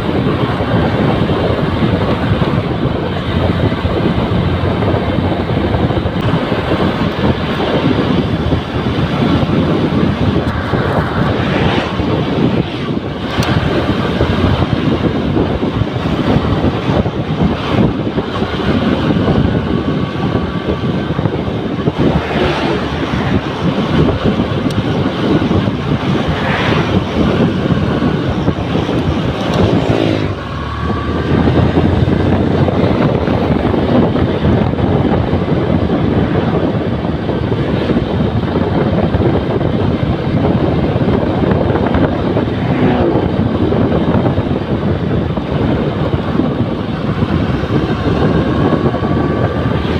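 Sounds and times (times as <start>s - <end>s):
motorcycle engine running: 0.0s - 49.9s
wind buffeting microphone: 0.0s - 49.9s.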